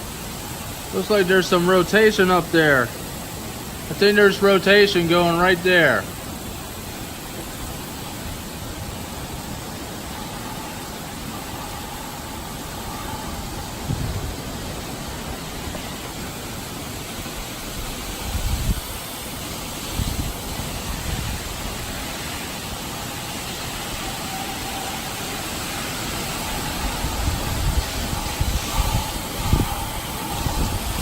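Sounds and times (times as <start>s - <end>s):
storm wind rushing: 6.1s - 31.0s
wind gusts buffeting microphone: 6.1s - 31.0s.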